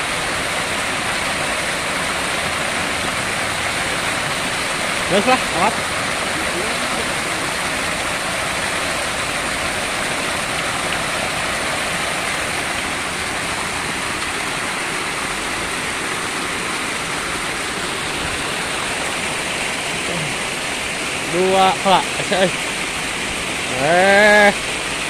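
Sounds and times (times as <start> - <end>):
small waterfall splashing: 0.0 - 25.0.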